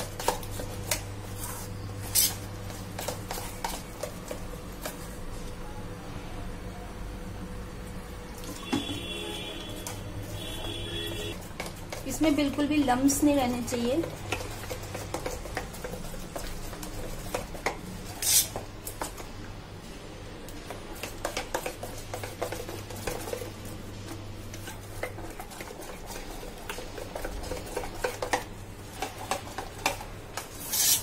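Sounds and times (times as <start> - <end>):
spoon stirring batter in metal bowl: 0.0 - 5.5, 8.4 - 19.3, 20.5 - 31.0.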